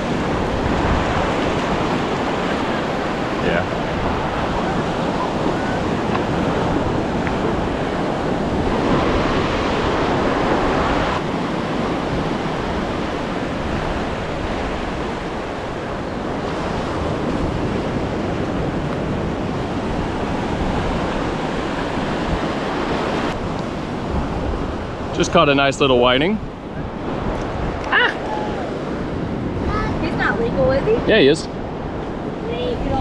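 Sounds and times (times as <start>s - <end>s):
ocean surf on beach: 0.0s - 33.0s
wind buffeting microphone: 0.0s - 33.0s.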